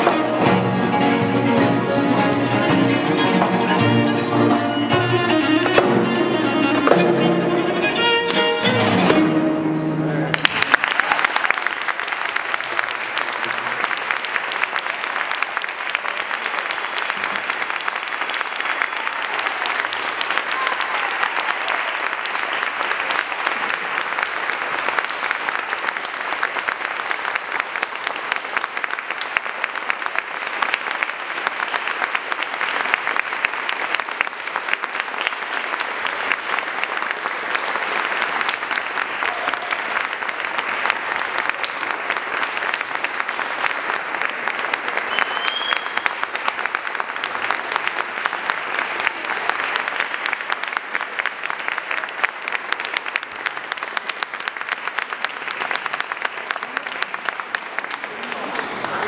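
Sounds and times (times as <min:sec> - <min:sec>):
audience applauding: 0:00.0 - 0:09.5, 0:10.1 - 0:59.0.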